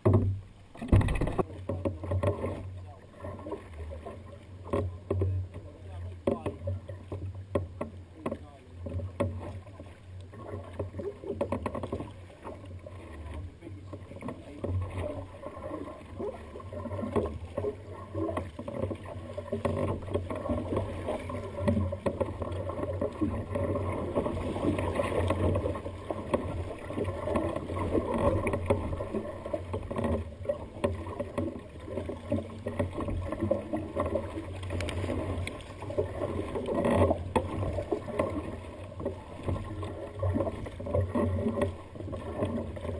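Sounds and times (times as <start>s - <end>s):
water slapping kayak hull: 0.0s - 42.9s.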